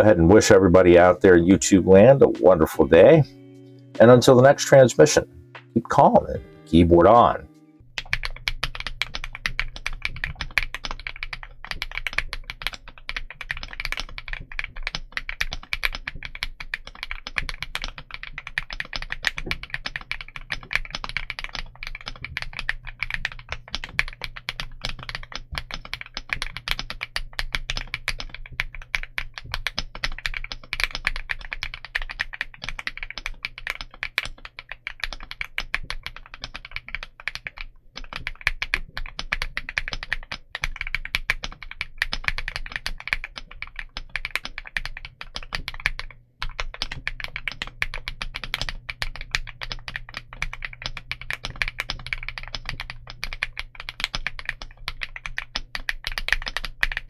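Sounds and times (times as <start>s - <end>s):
fast mechanical keyboard typing: 7.0s - 57.0s.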